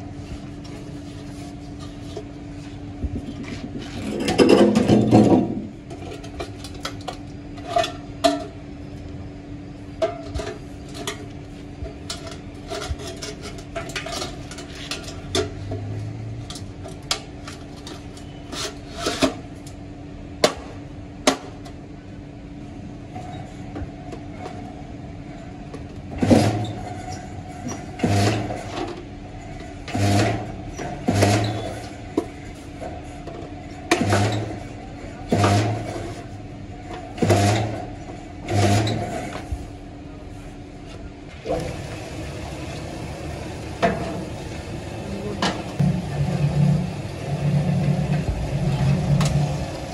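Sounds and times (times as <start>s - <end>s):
steady machine hum: 0.0s - 49.9s.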